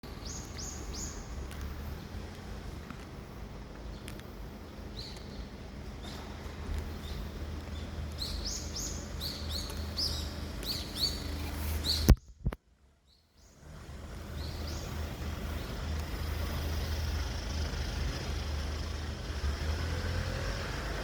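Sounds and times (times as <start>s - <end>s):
small birds chirping: 0.1s - 2.6s, 3.8s - 19.2s.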